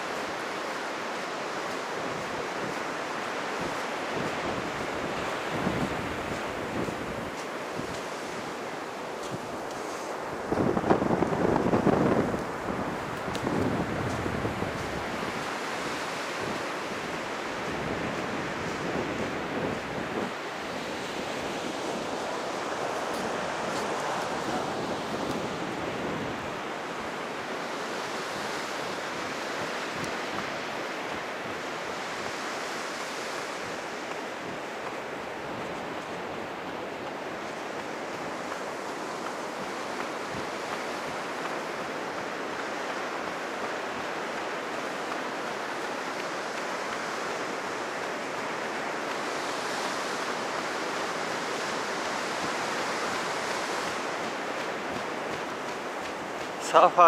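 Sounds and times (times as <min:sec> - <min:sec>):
heavy surf breaking on beach: 0:00.0 - 0:57.0.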